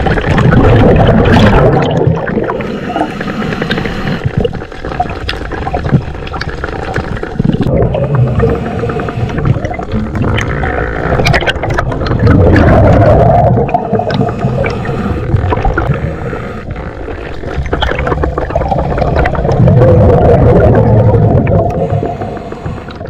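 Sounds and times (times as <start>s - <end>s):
air bubbles gurgling underwater: 0.0s - 23.0s
small clicks and pops: 0.0s - 23.0s.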